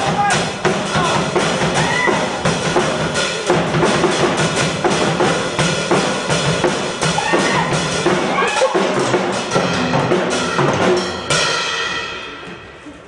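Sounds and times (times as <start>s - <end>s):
loud music: 0.0s - 12.8s
drum kit beat: 0.0s - 12.9s.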